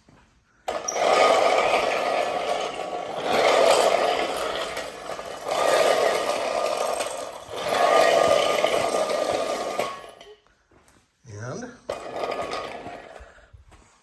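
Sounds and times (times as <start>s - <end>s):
caster wheels rolling and rattling: 0.6s - 10.4s, 11.9s - 13.4s.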